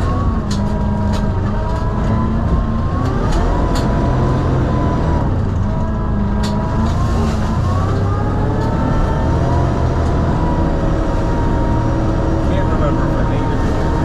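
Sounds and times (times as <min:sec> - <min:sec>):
diesel engine rumble with whine: 0:00.0 - 0:14.0.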